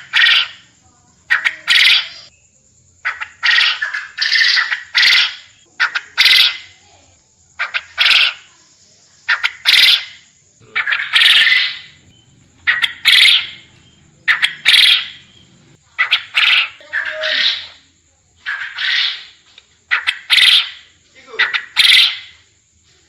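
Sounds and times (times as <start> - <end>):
quail calling: 0.0 - 0.7, 1.3 - 2.3, 3.0 - 6.8, 7.6 - 8.5, 9.3 - 22.4.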